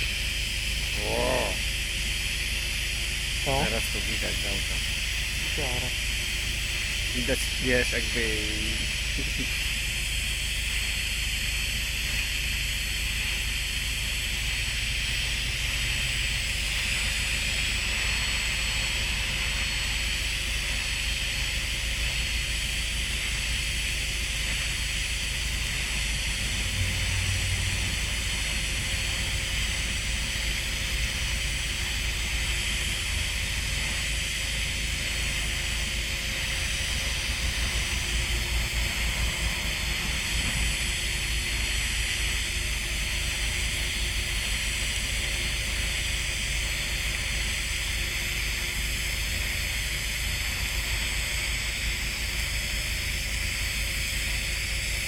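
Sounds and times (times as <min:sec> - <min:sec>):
welding arc hiss: 0:00.0 - 0:55.0.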